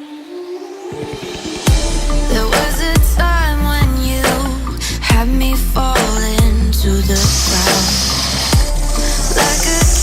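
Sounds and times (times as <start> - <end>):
music with deep bass and drums: 1.0 - 10.0.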